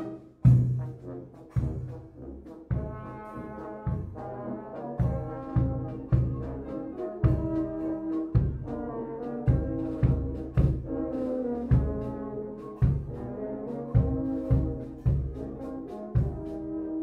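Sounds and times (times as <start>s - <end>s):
brass melody: 0.0s - 17.0s.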